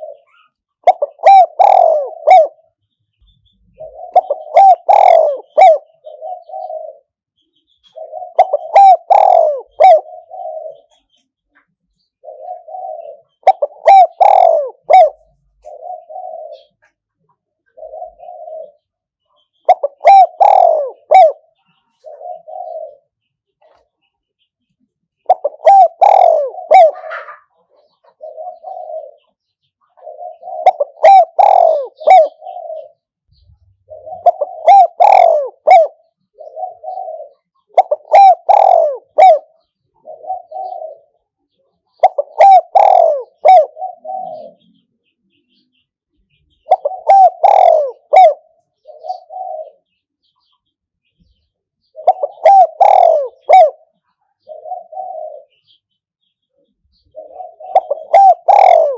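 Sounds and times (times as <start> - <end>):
dove cooing: 0.0 - 11.2, 12.0 - 24.0, 25.2 - 58.9.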